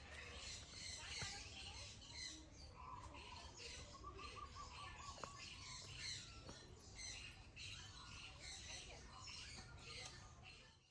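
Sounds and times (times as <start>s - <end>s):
faint small birds chirping: 0.0s - 10.9s.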